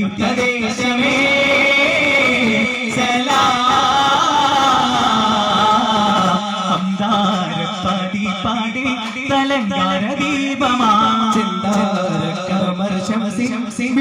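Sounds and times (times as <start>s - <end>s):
men singing a chant-like melody: 0.0s - 14.0s.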